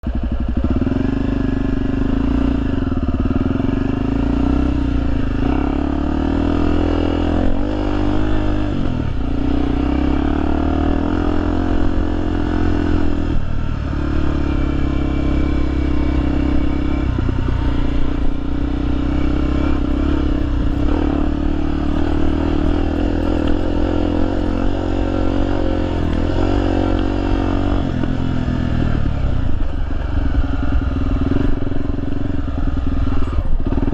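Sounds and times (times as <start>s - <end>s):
motorbike engine revving: 0.1s - 33.9s.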